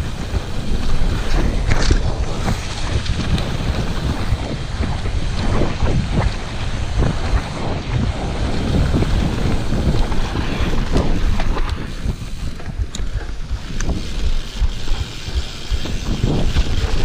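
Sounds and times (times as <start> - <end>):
bike knocking and rattling: 0.0 - 17.0
bike tyres rolling on dirt: 0.0 - 17.0
wind buffeting microphone: 0.0 - 17.0.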